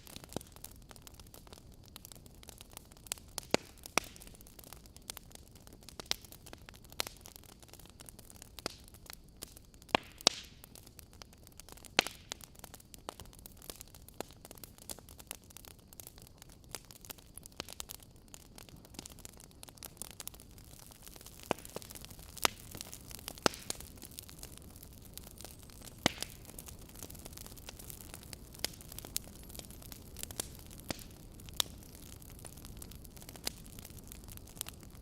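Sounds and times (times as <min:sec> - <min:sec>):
steady low hiss: 0:00.0 - 0:35.0
wood fire crackling and popping: 0:00.0 - 0:35.0.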